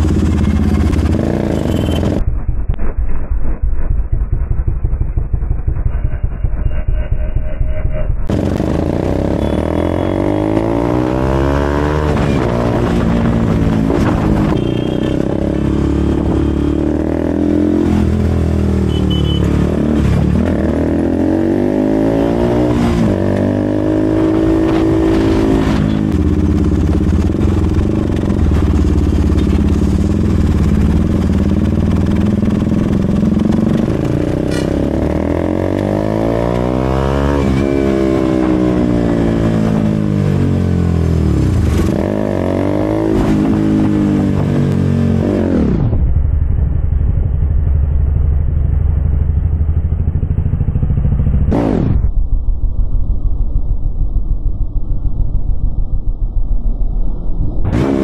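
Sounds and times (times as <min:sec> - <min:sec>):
motorcycle engine revving: 0:00.0 - 0:52.2, 0:54.2 - 0:58.0.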